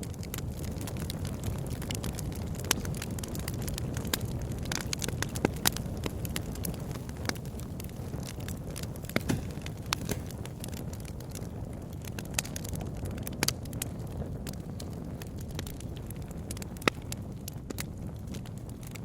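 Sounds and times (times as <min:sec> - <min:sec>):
bonfire crackling and popping: 0:00.0 - 0:19.0.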